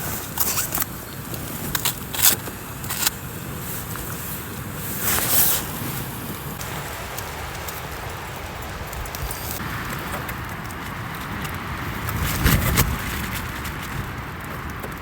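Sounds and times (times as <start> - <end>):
stove burner hissing: 0.0 - 12.1
water boiling in a pot: 0.0 - 15.0.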